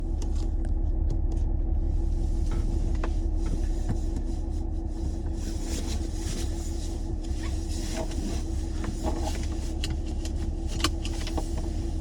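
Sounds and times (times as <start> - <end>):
faint steady hum: 0.0 - 12.0
vehicle rumbling: 0.0 - 12.0.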